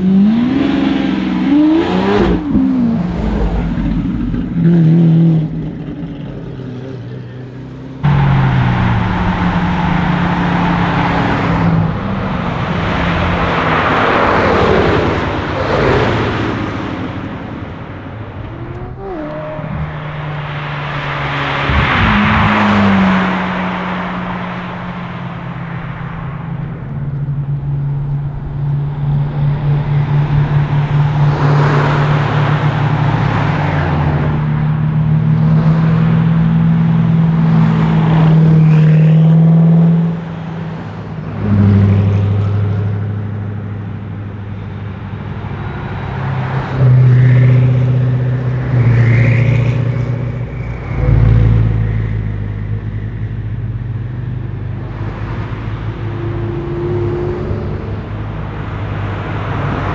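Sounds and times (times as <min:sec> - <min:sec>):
cars revving past: 0:00.0 - 0:59.9.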